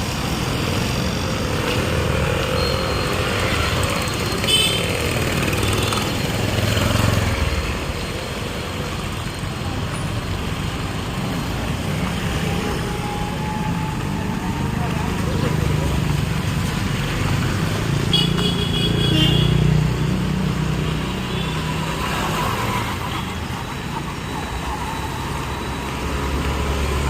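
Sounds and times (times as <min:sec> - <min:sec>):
passing vehicle engines: 0:00.0 - 0:27.0
road noise: 0:00.0 - 0:27.0.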